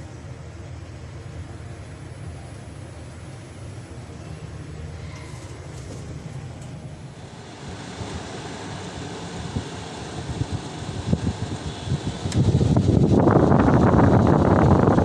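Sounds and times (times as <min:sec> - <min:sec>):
elevator low rumble: 0:00.0 - 0:15.0.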